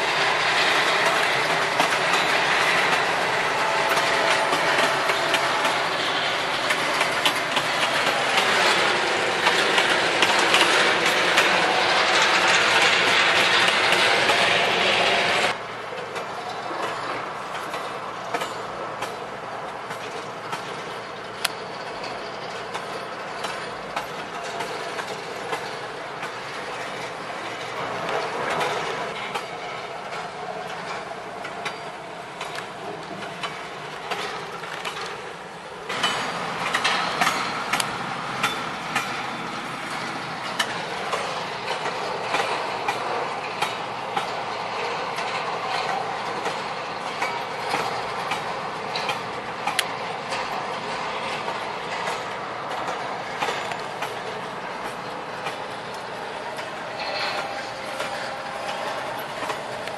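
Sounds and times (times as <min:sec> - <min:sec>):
train wagons rolling: 0:00.0 - 0:59.9.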